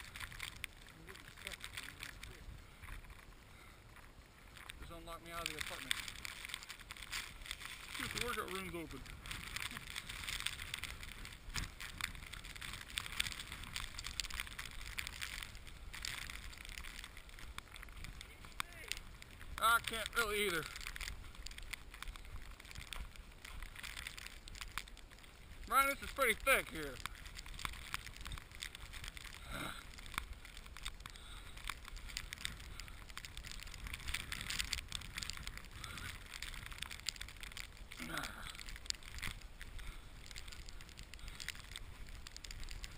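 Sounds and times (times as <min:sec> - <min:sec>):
footsteps crunching in snow: 0:00.0 - 0:42.9
wind rumble on microphone: 0:00.0 - 0:42.9.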